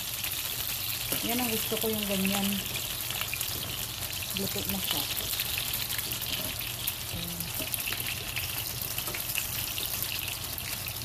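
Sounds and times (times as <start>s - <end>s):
sausages sizzling in a frying pan: 0.0s - 11.0s
metal tongs turning sausages: 0.2s - 11.0s.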